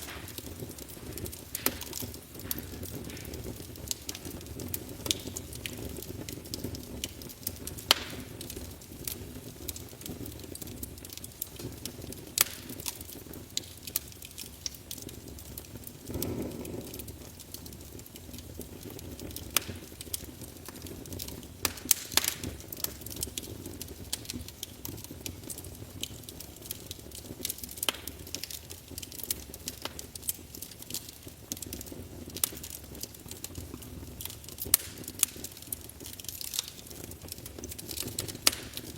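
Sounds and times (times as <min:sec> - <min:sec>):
low rumble of flame: 0:00.0 - 0:38.9
wood fire crackling and popping: 0:00.0 - 0:38.9.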